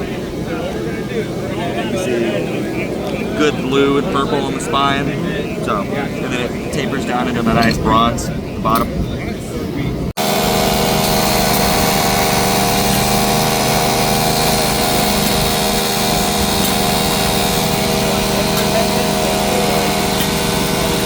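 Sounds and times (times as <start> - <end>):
shop machine motor humming: 0.0 - 9.0, 10.1 - 21.0.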